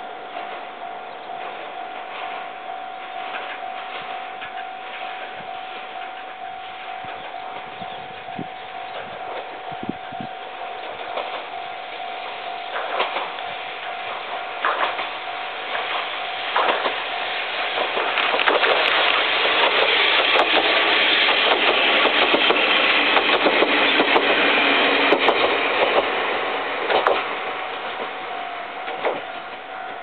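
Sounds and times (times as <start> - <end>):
diesel train engines running: 0.0 - 30.0
wheels clicking over rail joints: 0.4 - 30.0.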